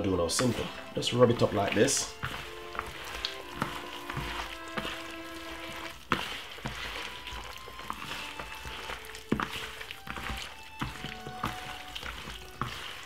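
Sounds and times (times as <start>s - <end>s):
hand squishing chicken in marinade: 0.0s - 13.0s
soft background music: 0.0s - 13.0s.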